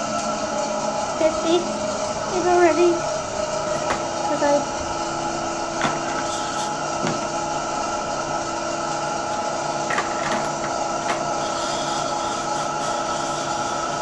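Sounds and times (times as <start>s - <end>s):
dental suction humming: 1.1s - 14.0s.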